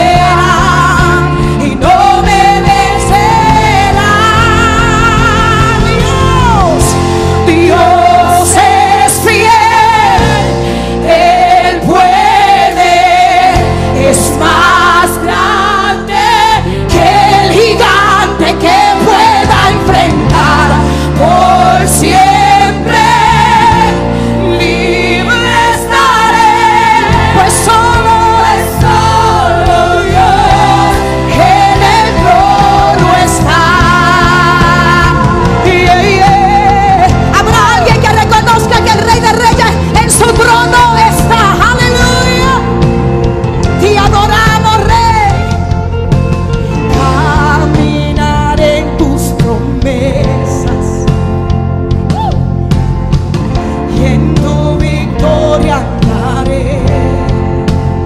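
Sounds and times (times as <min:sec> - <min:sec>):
woman singing with vibrato: 0:00.0 - 0:42.8, 0:43.7 - 0:45.6, 0:46.9 - 0:51.1, 0:53.9 - 0:57.3
congregation singing along: 0:00.0 - 0:45.8, 0:46.6 - 0:58.0
band accompaniment: 0:00.0 - 0:58.0.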